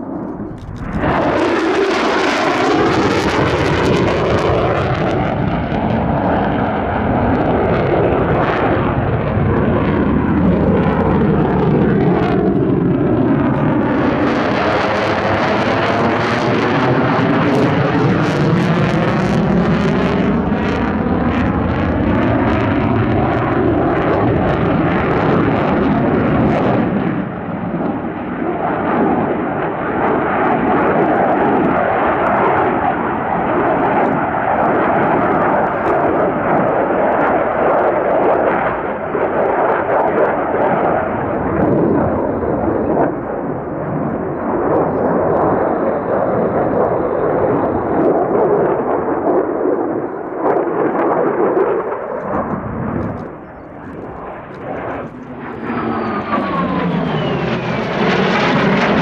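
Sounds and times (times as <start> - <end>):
jet engine roaring: 0.0 - 59.0.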